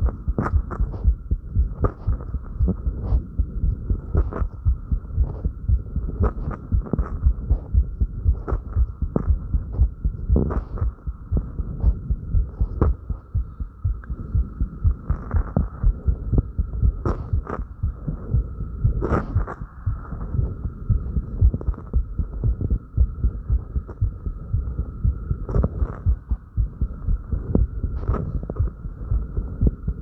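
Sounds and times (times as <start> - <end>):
rapid heartbeat thumps: 0.0 - 30.0
steady high hum: 0.0 - 30.0.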